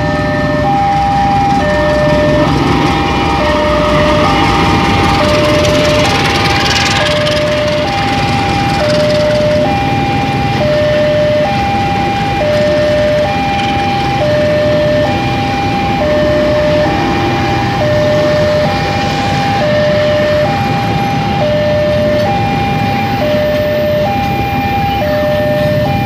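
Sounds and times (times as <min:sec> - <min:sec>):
level crossing alarm two-tone: 0:00.0 - 0:26.0
passenger train passing: 0:00.0 - 0:26.0.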